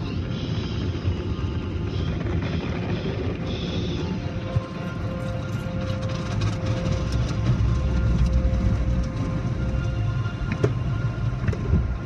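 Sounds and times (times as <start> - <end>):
car wash water and machinery: 0.0 - 12.0
music playing: 0.0 - 12.0.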